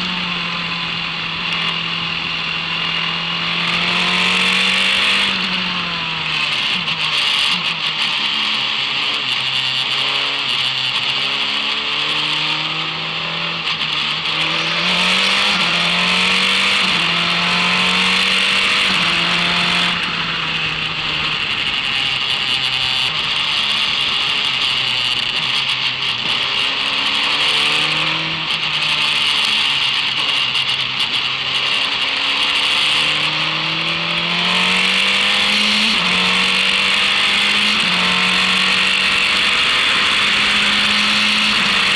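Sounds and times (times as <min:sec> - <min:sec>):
racing car engine revving: 0:00.0 - 0:41.9
wind and road noise: 0:00.0 - 0:41.9.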